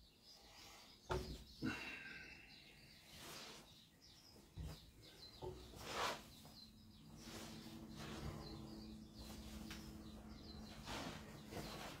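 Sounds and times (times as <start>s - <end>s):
faint birdsong: 0.0s - 12.0s.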